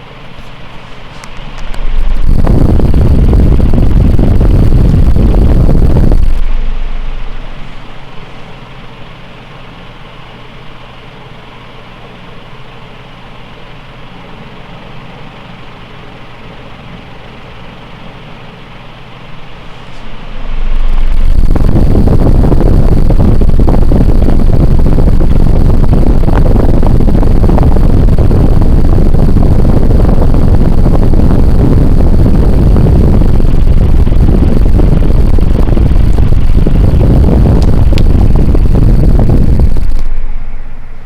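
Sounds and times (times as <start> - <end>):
fan wind buffeting microphone: 0.0 - 12.2, 13.4 - 41.0
ceiling fan whoosh: 0.0 - 12.4, 14.4 - 41.0
faint motor hum: 0.0 - 41.0.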